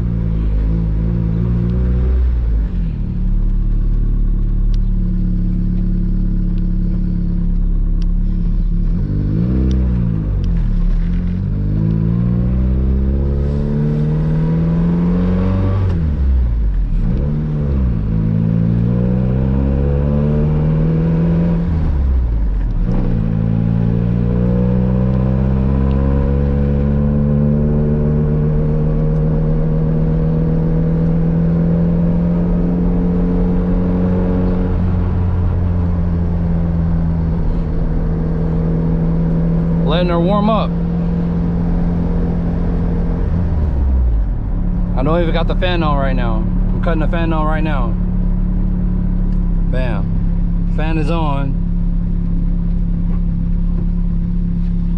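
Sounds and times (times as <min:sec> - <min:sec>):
turbocharged car engine revving: 0:00.0 - 0:54.9.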